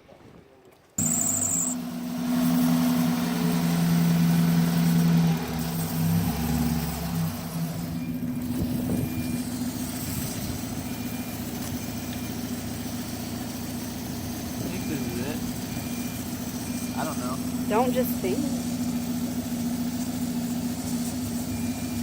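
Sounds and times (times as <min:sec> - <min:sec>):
car engine idling: 0:01.0 - 0:22.0.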